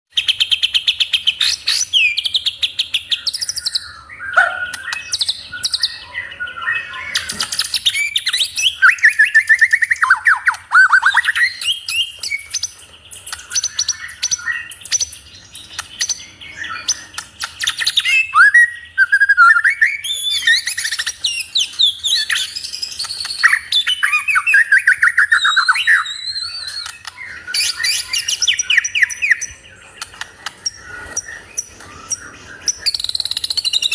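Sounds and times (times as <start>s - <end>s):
songbird singing trills and whistles: 0.1s - 33.9s.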